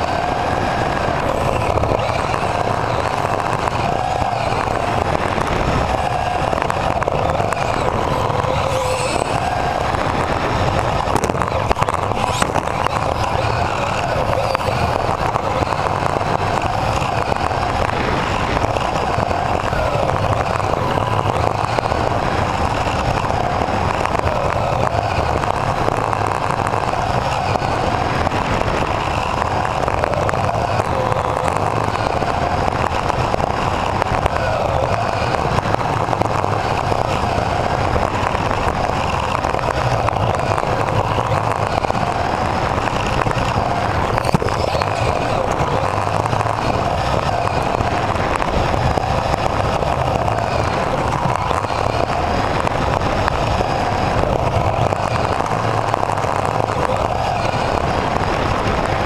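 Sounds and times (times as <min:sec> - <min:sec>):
electric motor and gears whining: 0:00.0 - 0:59.0
tyre and chassis noise: 0:00.0 - 0:59.0.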